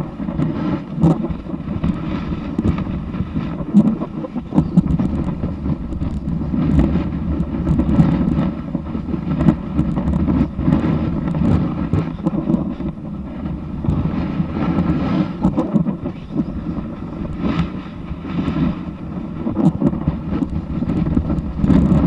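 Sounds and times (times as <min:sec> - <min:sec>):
small scrapes and clicks: 0:00.0 - 0:22.0
snowboard sliding over snow: 0:00.0 - 0:22.0
wind buffeting microphone: 0:00.0 - 0:22.0.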